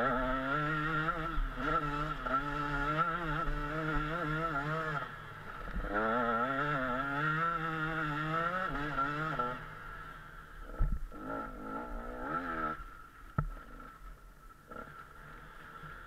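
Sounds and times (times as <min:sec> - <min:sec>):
motocross engine revving: 0:00.0 - 0:14.0, 0:14.6 - 0:16.0.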